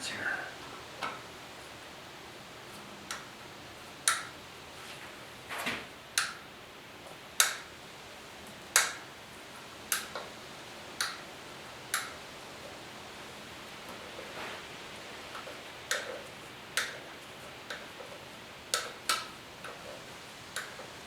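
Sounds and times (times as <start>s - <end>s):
low steady hiss: 0.0s - 21.0s.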